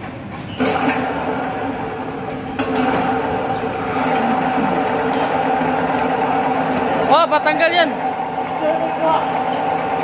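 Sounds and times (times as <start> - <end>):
floor grinder motor humming: 0.7 - 10.0.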